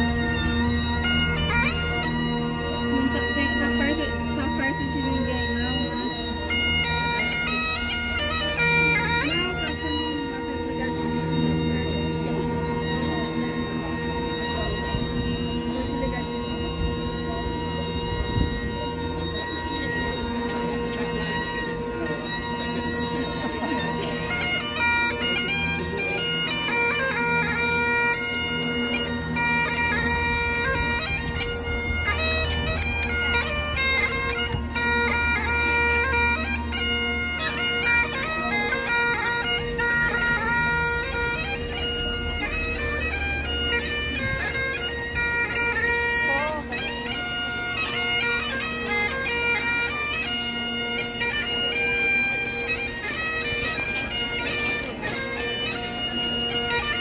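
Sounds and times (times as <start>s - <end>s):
bagpipes playing: 0.0s - 57.0s.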